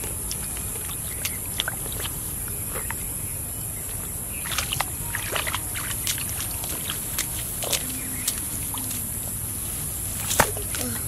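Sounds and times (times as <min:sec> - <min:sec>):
steady background hiss: 0:00.0 - 0:11.0
water sloshing and splashing: 0:00.0 - 0:11.0.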